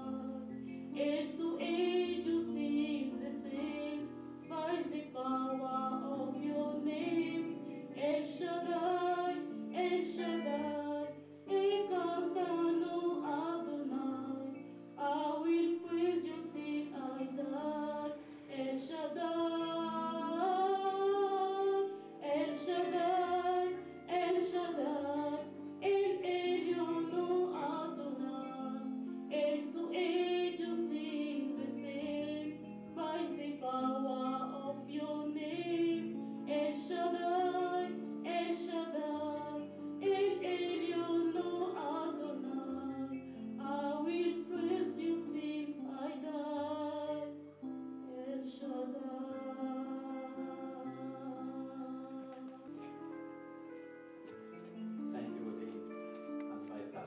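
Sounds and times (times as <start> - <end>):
instrumental accompaniment: 0.0 - 57.0.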